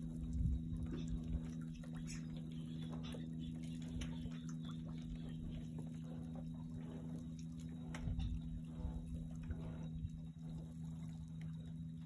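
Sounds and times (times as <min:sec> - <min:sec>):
steady low hum: 0:00.0 - 0:12.0
water lapping and splashing: 0:00.0 - 0:12.0.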